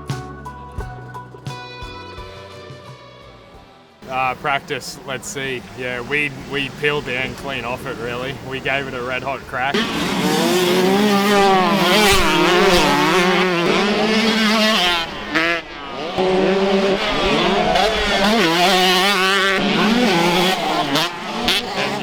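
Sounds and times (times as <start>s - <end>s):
motocross bike engines revving: 4.0s - 22.0s.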